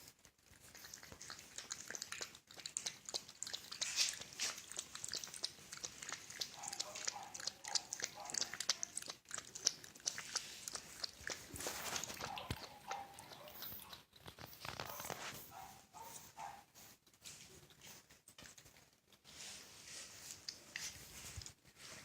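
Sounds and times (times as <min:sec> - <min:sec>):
dog chewing noises: 0:00.0 - 0:19.3.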